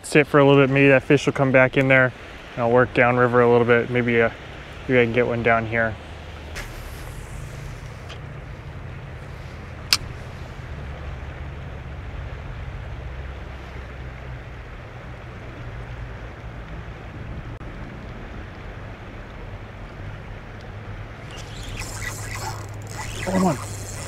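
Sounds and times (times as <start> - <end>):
river water rushing: 0.2 - 24.0
wind rumble on microphone: 3.8 - 24.0.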